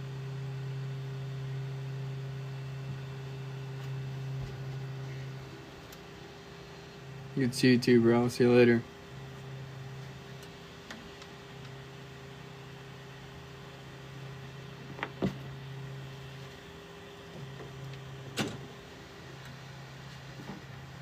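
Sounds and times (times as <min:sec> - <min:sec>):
low electrical motor hum: 0:00.0 - 0:21.0.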